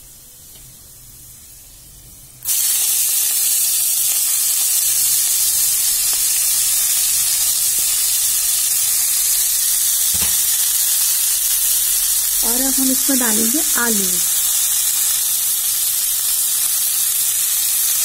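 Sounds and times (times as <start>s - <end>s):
leaves sizzling in hot oil: 0.4s - 18.0s.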